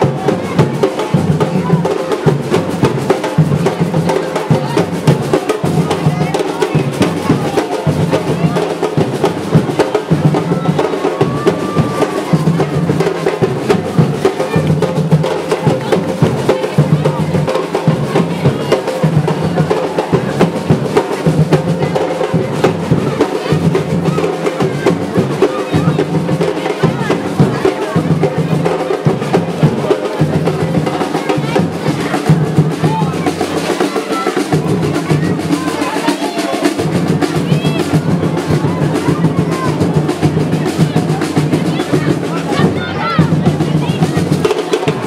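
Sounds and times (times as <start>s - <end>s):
drums beating: 0.0s - 45.0s.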